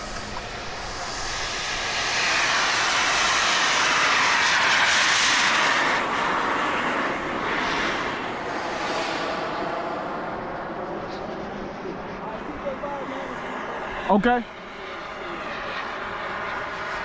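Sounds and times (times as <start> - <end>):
model jet turbine engine: 0.0 - 17.0.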